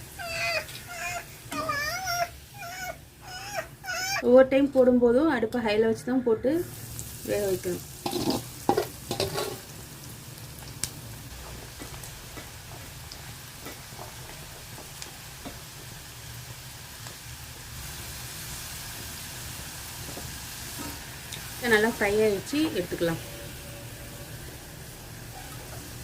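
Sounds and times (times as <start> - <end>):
okra sizzling in hot oil: 0.0 - 3.3, 6.5 - 26.0.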